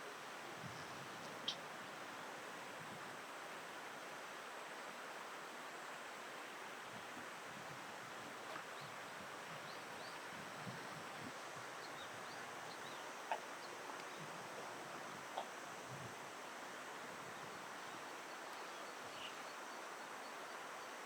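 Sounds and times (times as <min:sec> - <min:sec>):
rushing water: 0:00.0 - 0:21.0
wind: 0:00.0 - 0:21.0.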